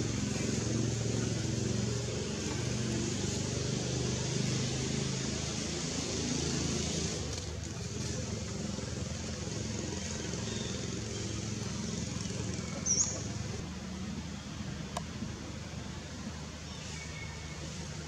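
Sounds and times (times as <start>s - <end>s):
engine running low hum: 0.0s - 18.0s
outdoor hiss: 0.0s - 18.0s.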